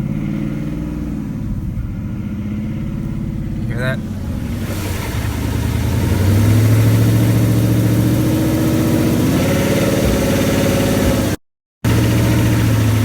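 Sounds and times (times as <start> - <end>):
car engine revving with knocking: 0.0 - 13.0.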